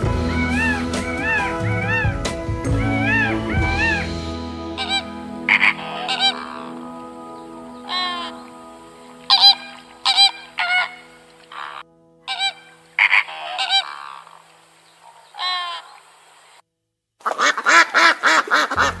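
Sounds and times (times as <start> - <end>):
flamingos honking: 0.0 - 16.6, 17.2 - 19.0
geese calling: 0.0 - 16.6, 17.2 - 19.0.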